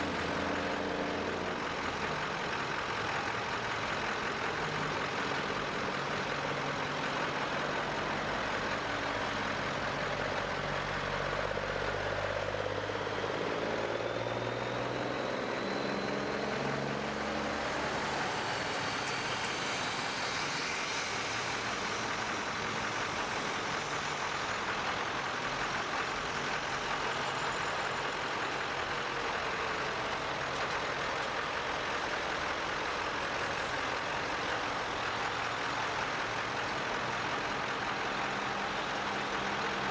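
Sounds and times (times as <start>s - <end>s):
heavy truck diesel engines: 0.0s - 39.9s.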